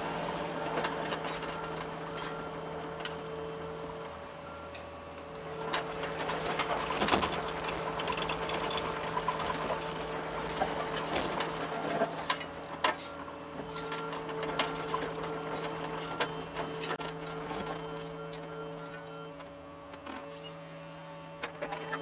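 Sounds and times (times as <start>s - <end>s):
excavator engine and hydraulic hum: 0.0s - 22.0s.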